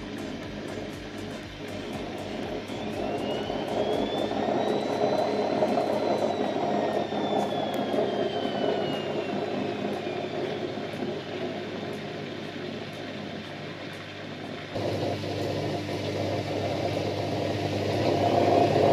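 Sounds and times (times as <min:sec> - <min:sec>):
high-pitched whine: 0:00.0 - 0:18.9
washing machine drum spinning: 0:00.0 - 0:18.9.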